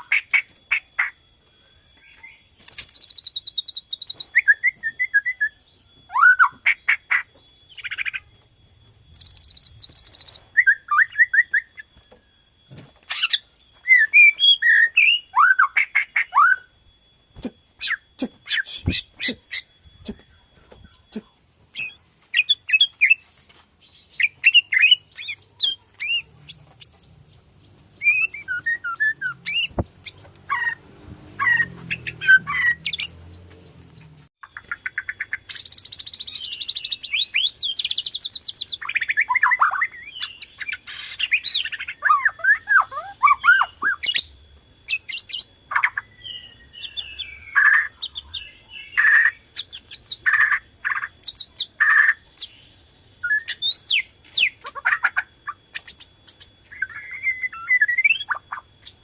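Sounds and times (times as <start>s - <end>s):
bird song with whistles and trills: 0.0s - 59.0s.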